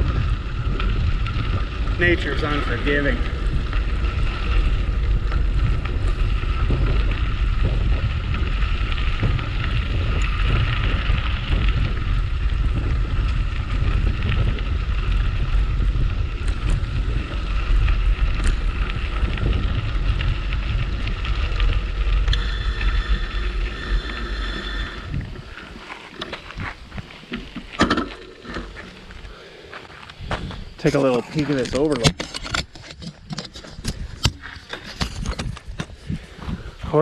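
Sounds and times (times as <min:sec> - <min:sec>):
bicycle rolling over dirt: 0:00.0 - 0:37.0
wind buffeting microphone: 0:00.0 - 0:37.0.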